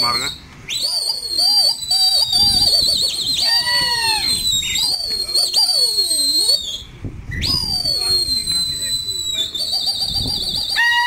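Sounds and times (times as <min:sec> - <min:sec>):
lower sliding whistles: 0:00.0 - 0:10.9
high warbling whistling: 0:00.0 - 0:11.0.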